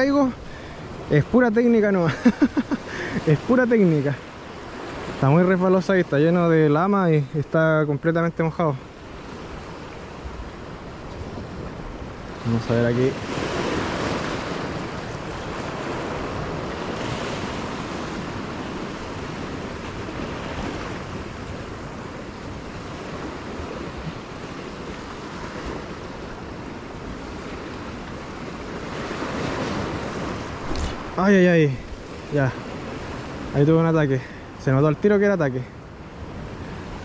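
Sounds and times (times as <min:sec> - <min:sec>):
ocean surf washing over rocks: 0:00.0 - 0:37.0.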